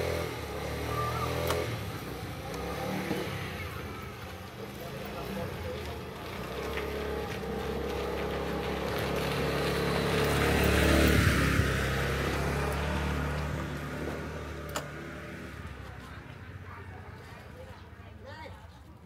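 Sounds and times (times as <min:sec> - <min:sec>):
vehicle engine passing by: 0:00.0 - 0:17.7.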